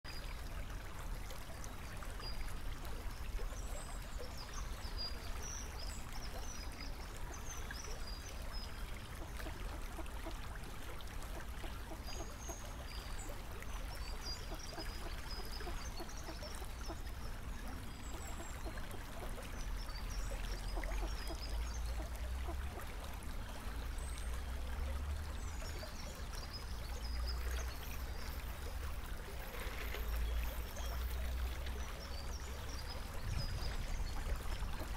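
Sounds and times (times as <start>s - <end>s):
water trickling: 0.1s - 34.9s.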